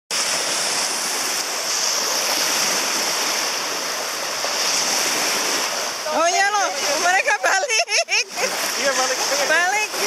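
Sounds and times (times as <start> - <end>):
lake waves washing: 0.1 - 10.0.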